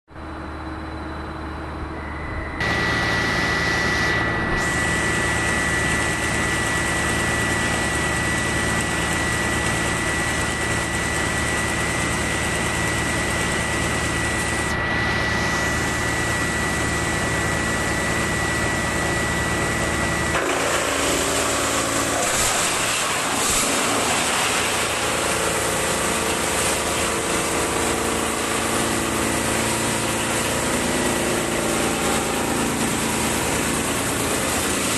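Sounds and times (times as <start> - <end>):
thin high whine: 0.1 - 34.9
wood chipper drone: 0.1 - 34.9.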